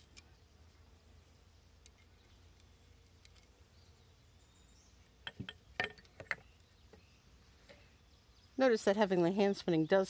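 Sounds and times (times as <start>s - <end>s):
faint outdoor background: 0.0s - 10.0s.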